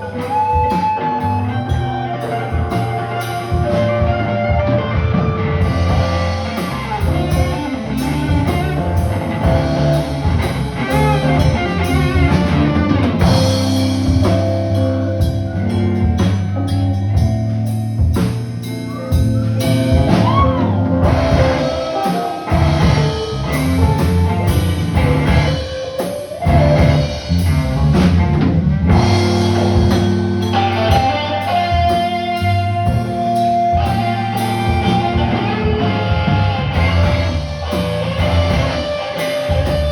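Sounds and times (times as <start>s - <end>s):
drum kit playing: 0.0s - 39.9s
electric guitar playing: 0.0s - 39.9s.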